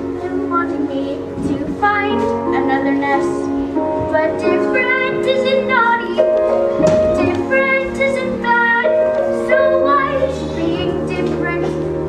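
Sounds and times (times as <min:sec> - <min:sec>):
musical accompaniment: 0:00.0 - 0:12.0
boy singing: 0:00.1 - 0:11.8.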